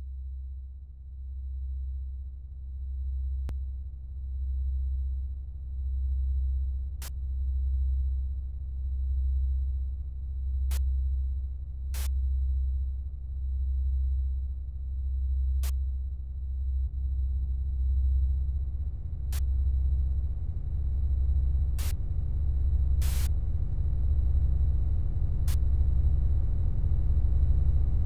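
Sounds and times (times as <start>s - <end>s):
deep bass drone: 0.0s - 28.0s.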